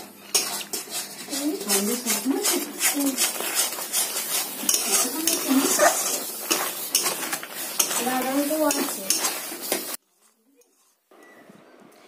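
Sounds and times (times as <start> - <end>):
metal spatula scraping metal pan: 0.0 - 10.0.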